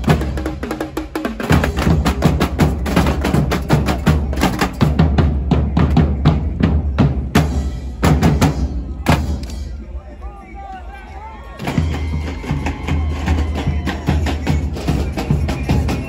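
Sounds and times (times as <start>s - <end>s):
carnival drums playing fast beat: 0.0s - 9.8s, 11.6s - 16.0s.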